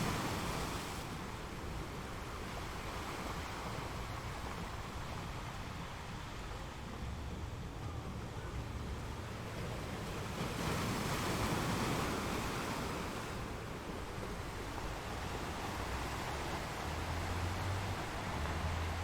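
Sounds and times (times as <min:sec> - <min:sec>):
ocean surf: 0:00.0 - 0:19.0.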